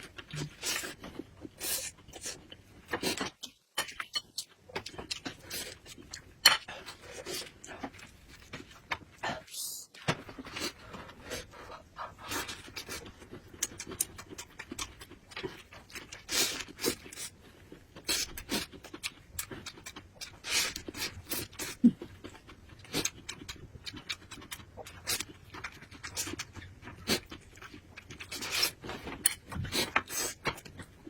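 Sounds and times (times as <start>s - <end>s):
person chewing and smacking: 0.0s - 9.2s, 12.1s - 31.0s.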